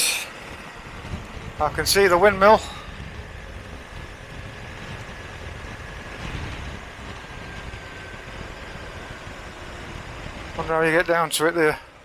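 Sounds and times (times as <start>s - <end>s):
wind noise on microphone: 0.0s - 10.8s
faint steady whine: 0.0s - 12.0s
motorcycle engine rumbling: 0.0s - 12.0s.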